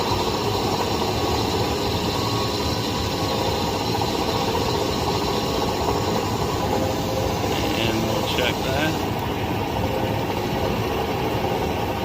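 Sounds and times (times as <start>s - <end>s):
metal lathe motor humming: 0.0s - 12.0s.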